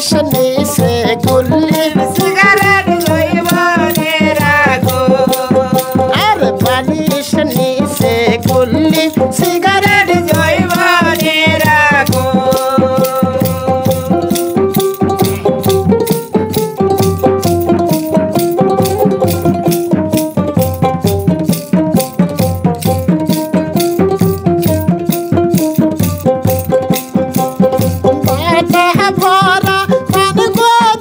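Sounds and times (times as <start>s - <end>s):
folk melody: 0.0s - 31.0s
rattle percussion: 0.0s - 31.0s.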